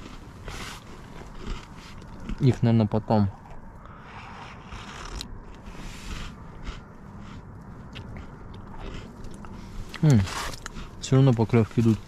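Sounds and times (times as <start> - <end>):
person chewing crunchy cookies: 0.0 - 12.0.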